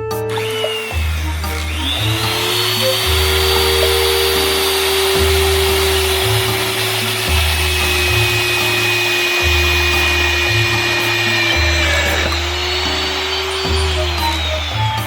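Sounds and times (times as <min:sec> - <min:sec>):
background music with bass line: 0:00.0 - 0:15.0
disc sander motor whining: 0:00.3 - 0:15.0.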